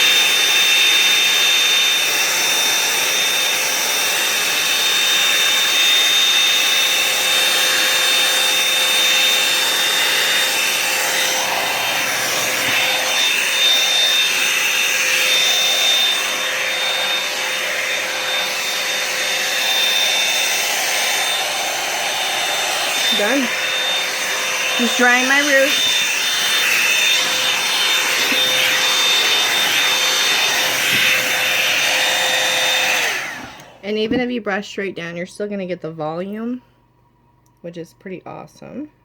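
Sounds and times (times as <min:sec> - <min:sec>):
hair dryer blowing with high whine: 0:00.0 - 0:34.6.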